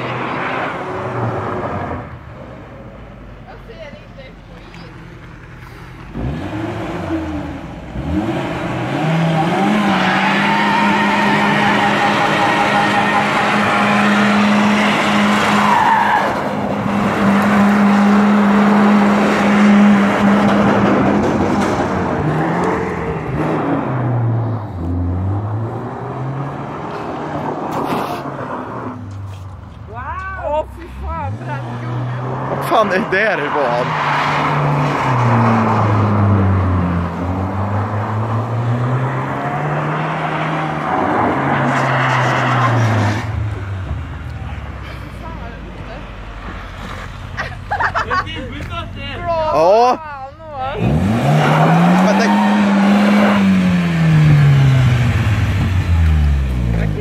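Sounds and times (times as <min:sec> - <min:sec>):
tyres screeching on asphalt: 0:03.4 - 0:57.0
car engine at high revs: 0:04.9 - 0:29.8, 0:30.8 - 0:50.0, 0:50.6 - 0:57.0.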